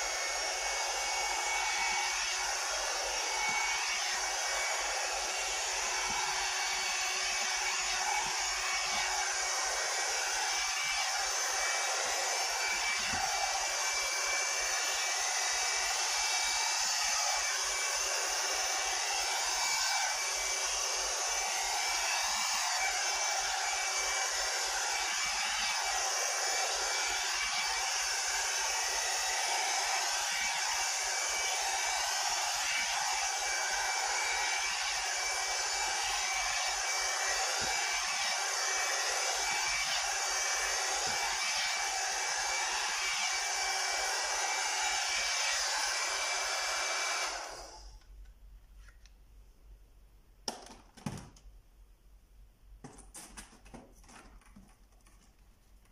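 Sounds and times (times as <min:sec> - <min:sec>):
hair dryer brush running: 0:00.0 - 0:48.0.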